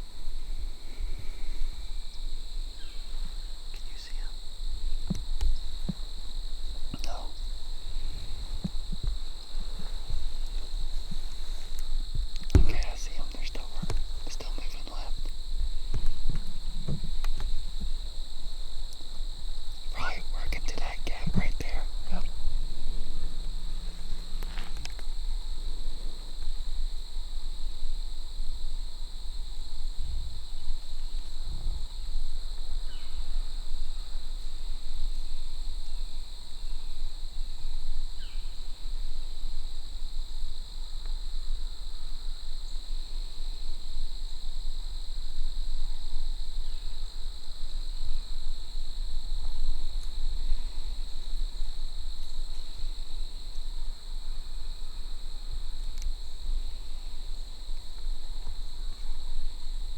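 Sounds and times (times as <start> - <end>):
crickets and insects droning: 0.0 - 59.9.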